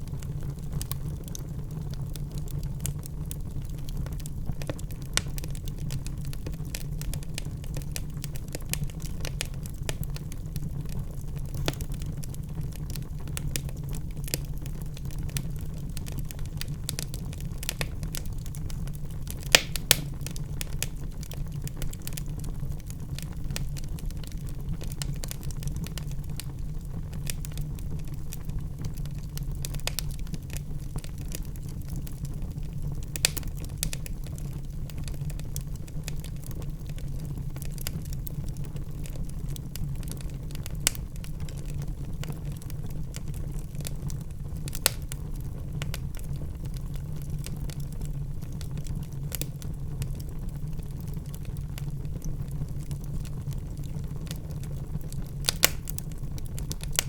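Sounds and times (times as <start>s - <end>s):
wood fire crackling: 0.0s - 57.0s
fire pops: 0.1s - 35.4s, 39.8s - 47.9s, 48.5s - 57.0s.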